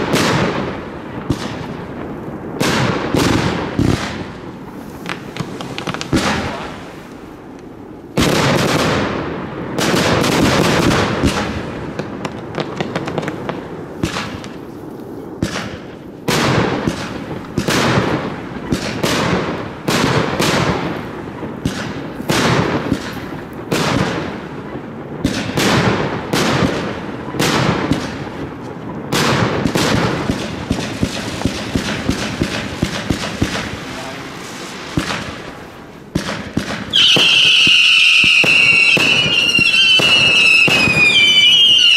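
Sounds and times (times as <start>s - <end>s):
fireworks crackling: 0.0s - 41.9s
fireworks launching and bursting: 0.0s - 41.9s.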